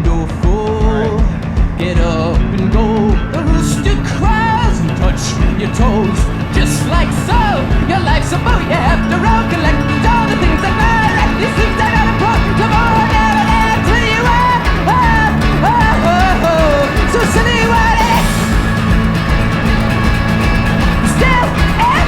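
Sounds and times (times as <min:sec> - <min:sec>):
band playing a song: 0:00.0 - 0:22.0
wavering lead melody: 0:00.0 - 0:22.0.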